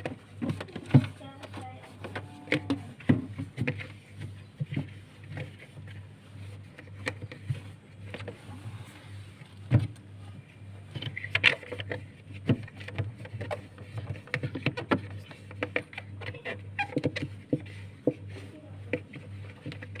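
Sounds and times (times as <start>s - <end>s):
objects knocking and rattling: 0.0s - 8.4s, 9.6s - 20.0s
steady low hum: 0.0s - 20.0s.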